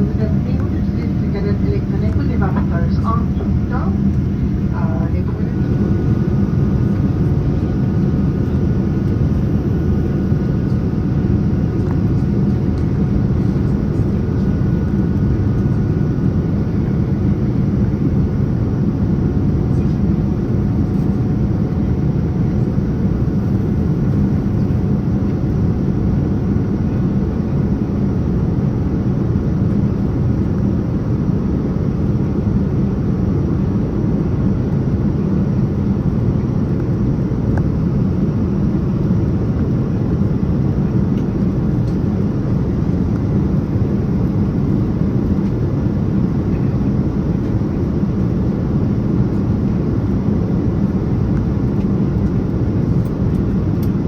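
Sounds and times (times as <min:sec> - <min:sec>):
airplane cabin airflow and engine noise: 0:00.0 - 0:54.0.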